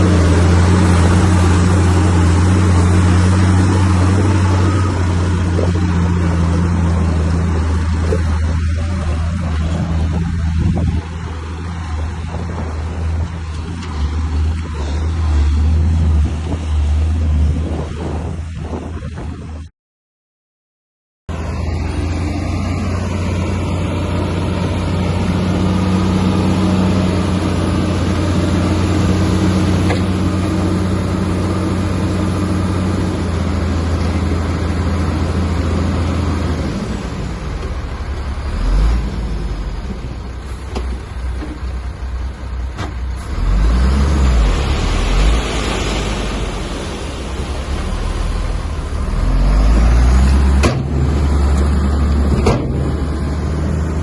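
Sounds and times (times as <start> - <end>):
heavy diesel engine under load: 0.0 - 19.7, 21.3 - 54.0.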